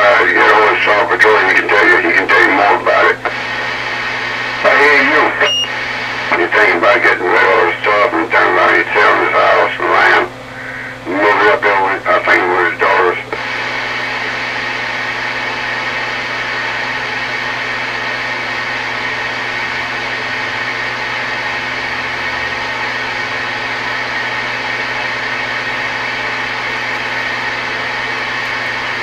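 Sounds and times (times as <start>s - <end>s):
low steady hum: 0.0s - 29.0s
radio static hiss: 0.0s - 29.0s.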